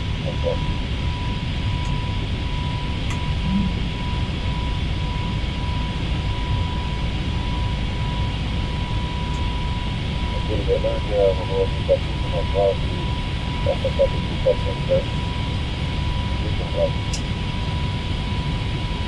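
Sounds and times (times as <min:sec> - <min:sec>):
airflow and engine rush: 0:00.0 - 0:19.0.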